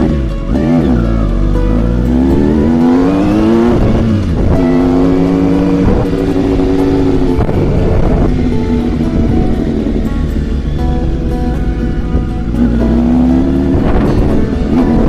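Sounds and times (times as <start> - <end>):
motorcycle engine accelerating: 0.0 - 15.0
wind noise on microphone: 0.0 - 15.0.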